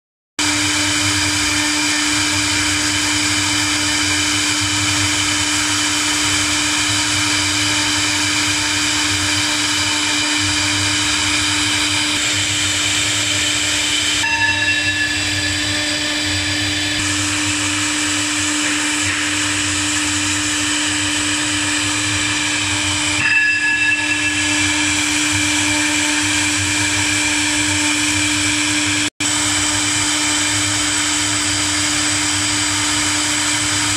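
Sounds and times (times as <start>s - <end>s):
router spindles whining: 0.4s - 33.9s.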